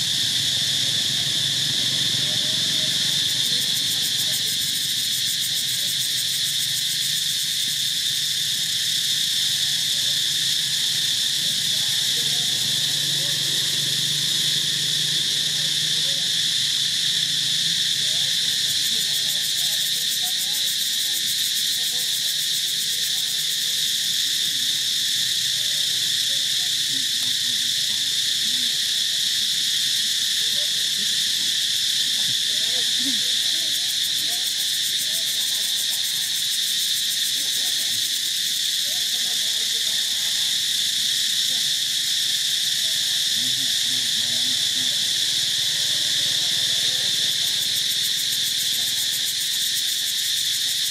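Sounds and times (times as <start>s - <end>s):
insect chorus drone: 0.0s - 50.9s.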